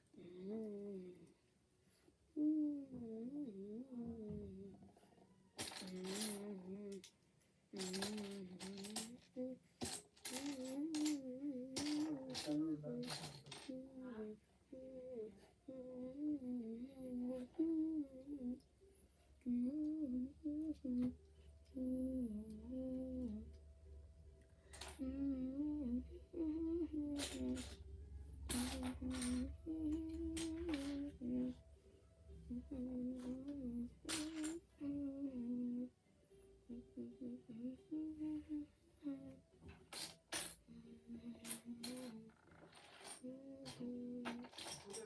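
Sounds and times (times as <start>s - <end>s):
child humming a melody: 0.0s - 1.4s, 2.3s - 5.0s, 5.6s - 7.1s, 7.8s - 23.6s, 24.7s - 31.7s, 32.3s - 39.7s, 40.6s - 45.0s.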